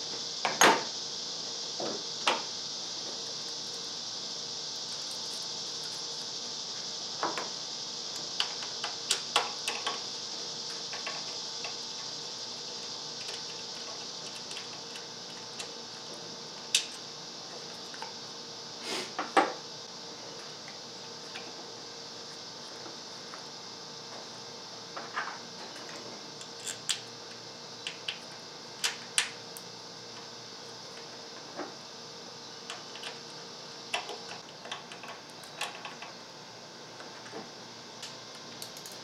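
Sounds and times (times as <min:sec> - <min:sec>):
steady hiss: 0:00.0 - 0:36.2.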